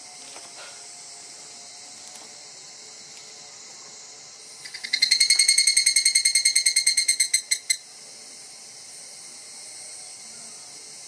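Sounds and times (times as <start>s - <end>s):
cicada calling: 0.0s - 11.0s.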